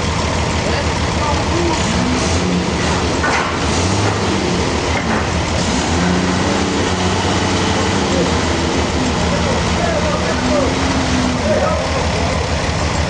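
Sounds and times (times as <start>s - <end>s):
sawmill machinery running: 0.0s - 13.0s.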